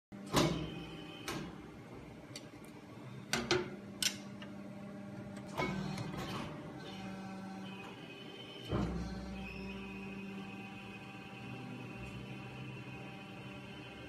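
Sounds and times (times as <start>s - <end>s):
machine humming: 2.7s - 14.0s.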